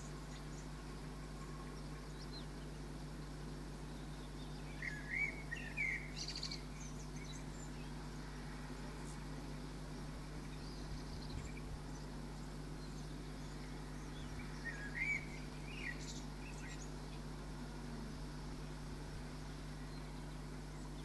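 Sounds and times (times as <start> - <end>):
faint bird chirps: 0.0 - 18.3
background hiss: 0.0 - 21.0
low hum: 0.0 - 21.0.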